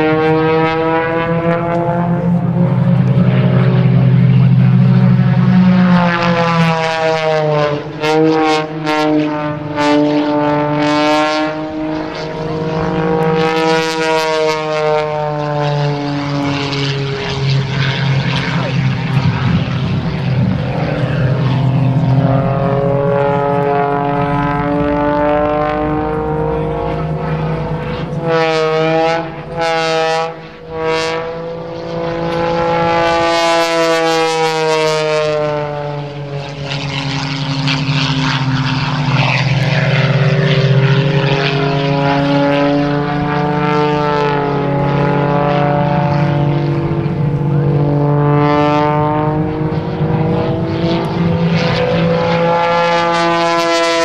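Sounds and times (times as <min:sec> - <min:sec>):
biplane engine and propeller: 0:00.0 - 0:54.0.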